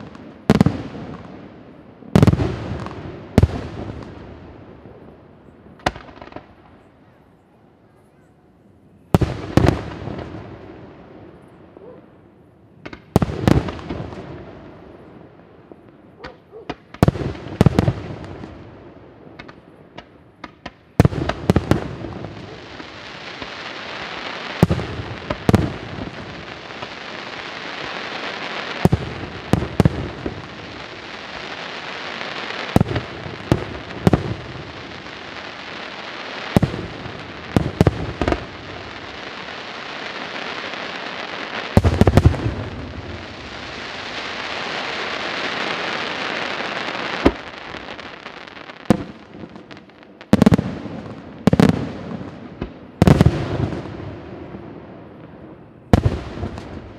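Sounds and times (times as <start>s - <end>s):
continuous dense hiss: 0.0s - 56.9s.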